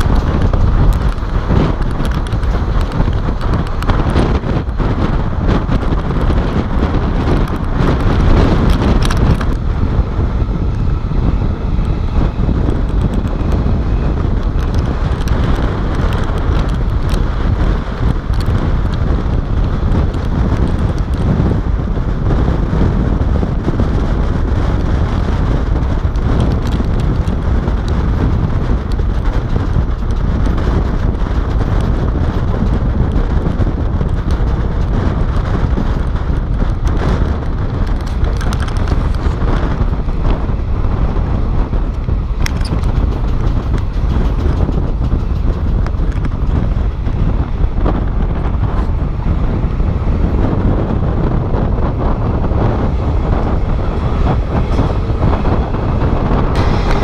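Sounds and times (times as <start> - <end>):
train wheels rumbling on rails: 0.0 - 57.0
wind buffeting microphone: 0.0 - 57.0.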